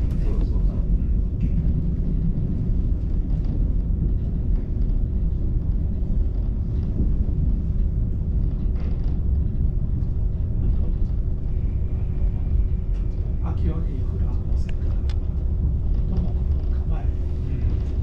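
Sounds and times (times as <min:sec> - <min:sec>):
railcar rumble inside cabin: 0:00.0 - 0:18.0.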